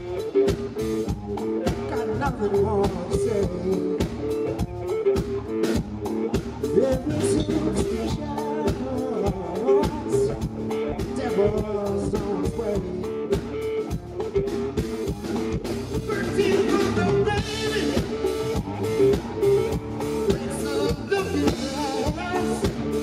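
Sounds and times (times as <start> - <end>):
electric bass: 0.0 - 23.0
steady drum beat: 0.0 - 23.0.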